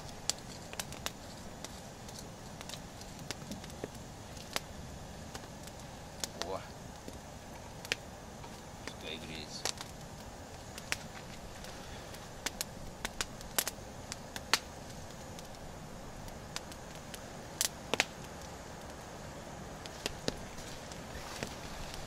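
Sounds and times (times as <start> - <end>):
campfire crackling and popping: 0.0 - 22.0
low fire hiss: 0.0 - 22.0.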